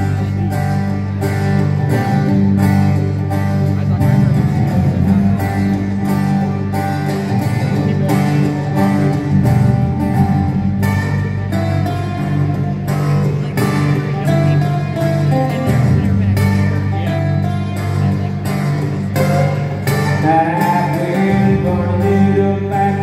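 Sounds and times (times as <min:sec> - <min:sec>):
country band playing: 0:00.0 - 0:23.0
strummed acoustic guitars: 0:00.0 - 0:23.0.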